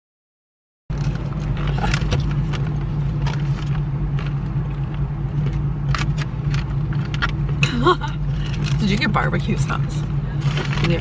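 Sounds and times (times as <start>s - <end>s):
car cabin hum: 0.9s - 11.0s.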